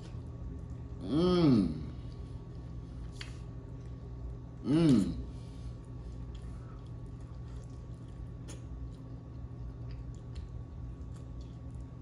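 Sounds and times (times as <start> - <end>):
chewing and wet mouth sounds: 0.0 - 1.0, 1.6 - 12.0
steady low hum: 0.0 - 12.0.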